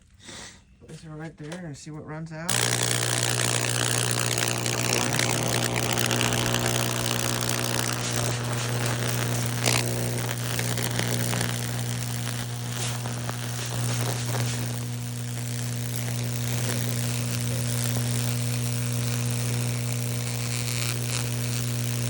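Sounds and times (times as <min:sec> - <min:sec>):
electrical crackle and sizzle: 0:02.5 - 0:22.0
sharp electrical snap: 0:02.5 - 0:22.0
transformer humming: 0:02.5 - 0:22.0.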